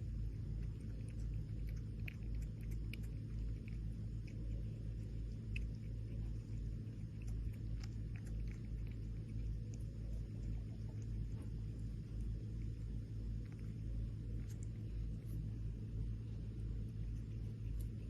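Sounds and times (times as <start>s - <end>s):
cat chewing: 0.0s - 18.0s
low rumble: 0.0s - 18.0s.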